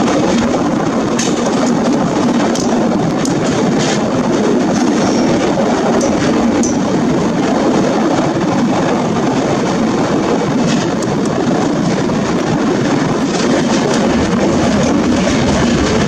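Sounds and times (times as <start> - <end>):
train rushing past: 0.0 - 16.0.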